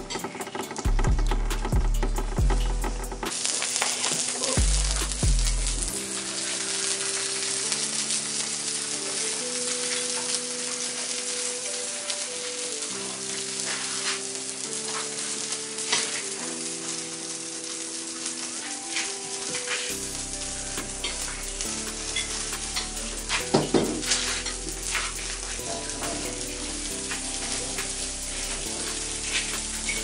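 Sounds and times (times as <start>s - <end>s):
food sizzling in a pan: 0.0s - 30.0s
soft background music: 0.0s - 30.0s.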